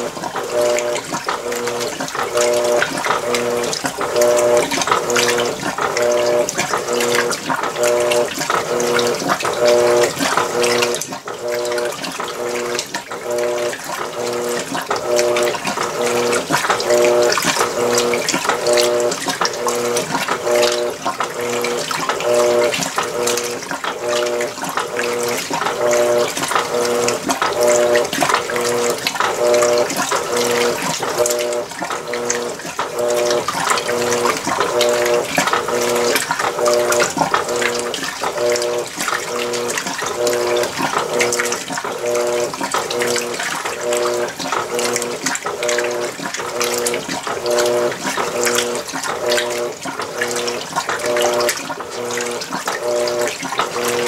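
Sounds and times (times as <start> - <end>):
washing machine motor hum: 0.0 - 54.0
water and clothes swishing: 0.0 - 54.0.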